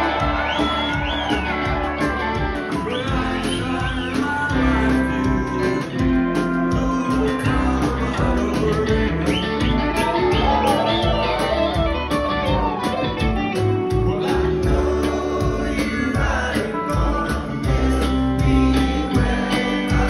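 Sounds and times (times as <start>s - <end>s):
bending lead guitar line: 0.0s - 20.0s
live rock band playing: 0.0s - 20.0s.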